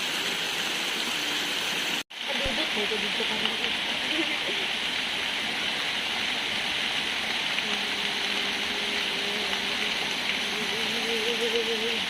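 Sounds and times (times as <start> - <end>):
rush of flowing water: 0.0 - 12.0.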